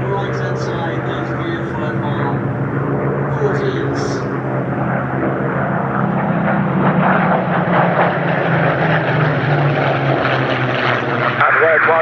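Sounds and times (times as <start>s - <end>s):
aircraft piston engine droning: 0.0s - 12.0s.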